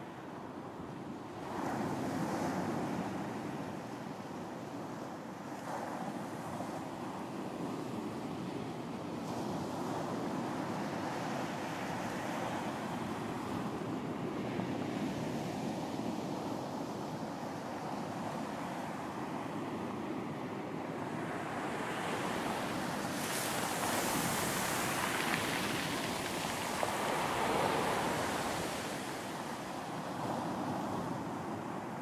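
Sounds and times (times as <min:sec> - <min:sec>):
ocean waves washing onto beach: 0:01.1 - 0:32.0.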